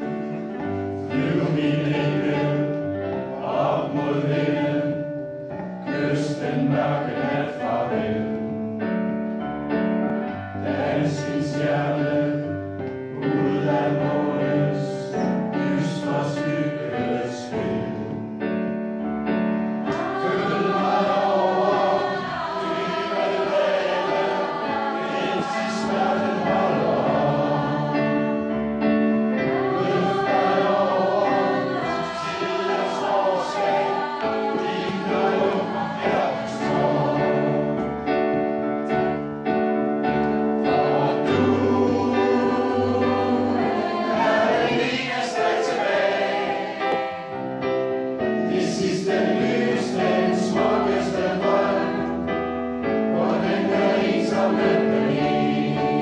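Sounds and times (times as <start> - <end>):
choir singing long notes: 0.0 - 8.6, 10.2 - 18.7, 19.3 - 39.3, 40.1 - 56.0.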